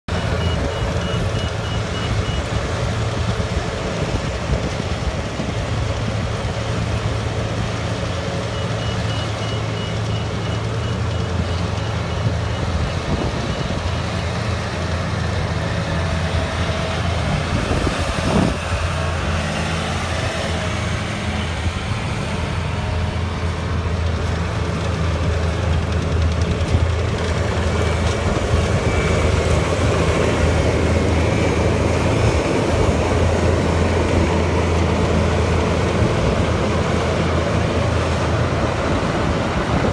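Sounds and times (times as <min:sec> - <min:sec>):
harvester engine droning: 0:00.1 - 0:39.9.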